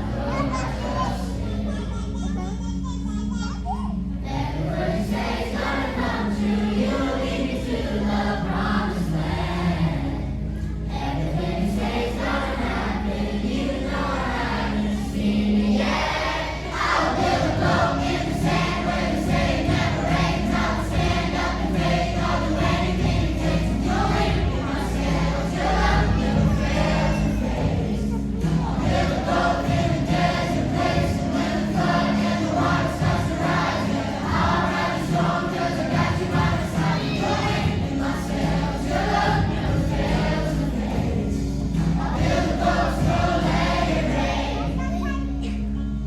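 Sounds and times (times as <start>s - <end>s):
youth choir singing: 0.0s - 1.7s, 4.2s - 44.9s.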